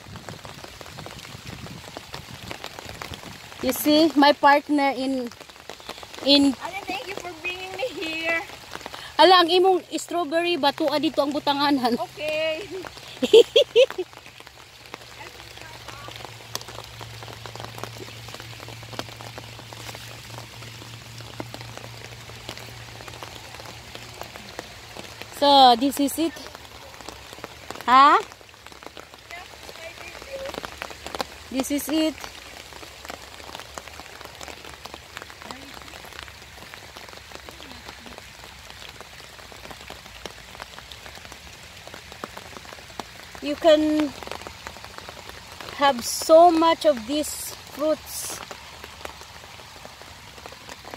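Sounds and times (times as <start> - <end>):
rain hiss: 0.0 - 50.9
raindrops ticking: 0.0 - 50.9.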